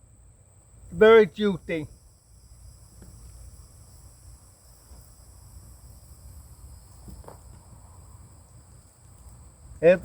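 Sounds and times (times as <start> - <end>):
insect chorus chirring: 0.0 - 10.0.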